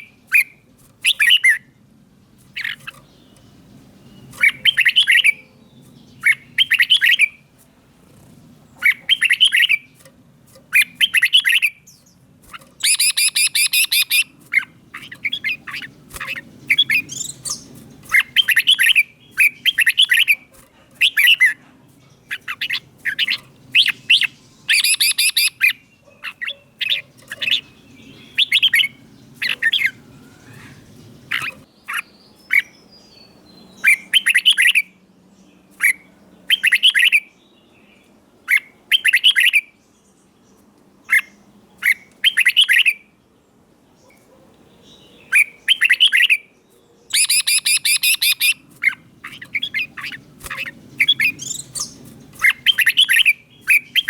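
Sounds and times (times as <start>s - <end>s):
harsh rasping bird calls: 0.0s - 35.0s, 35.6s - 39.8s, 40.6s - 43.1s, 44.0s - 54.0s
bird singing bright phrases: 0.0s - 54.0s.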